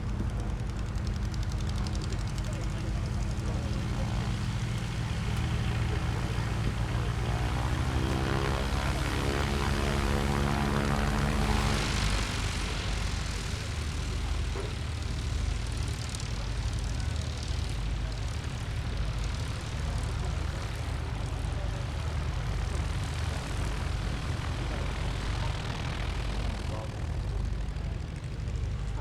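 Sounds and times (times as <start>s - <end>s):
propeller aircraft engine passing: 0.0s - 29.0s.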